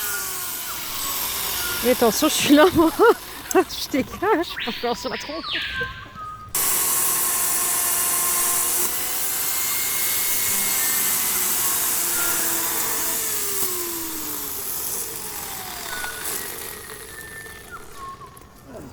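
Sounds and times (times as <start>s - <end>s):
electric chainsaw running: 0.0s - 4.3s, 6.5s - 18.6s.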